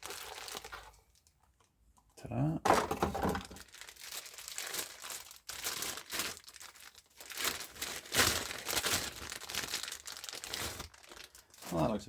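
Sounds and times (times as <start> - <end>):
packaging crinkling: 0.0 - 1.4, 2.7 - 12.0.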